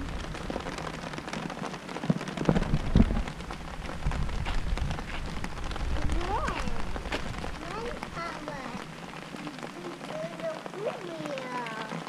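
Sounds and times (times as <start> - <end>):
louder rain taps: 0.0 - 12.0
rain falling: 0.0 - 12.0.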